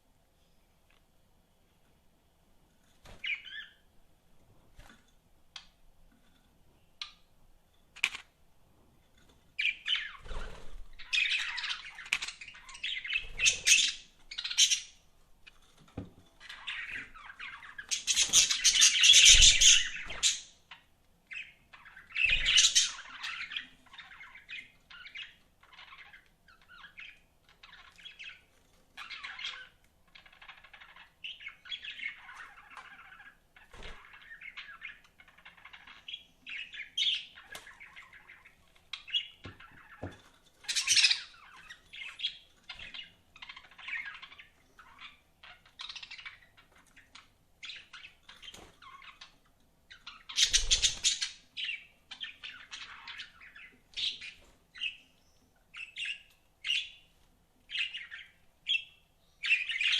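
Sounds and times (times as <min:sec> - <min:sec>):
budgerigars chirping and chattering: 0:03.1 - 0:03.8, 0:09.6 - 0:15.0, 0:16.4 - 0:59.9.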